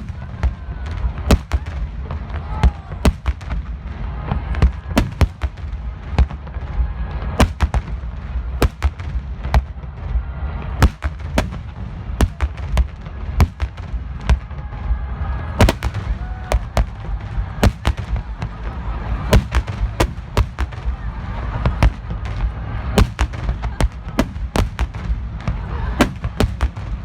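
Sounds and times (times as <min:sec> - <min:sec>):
fireworks bursting: 0:00.0 - 0:14.8, 0:15.4 - 0:27.0
low rumble: 0:00.0 - 0:27.0.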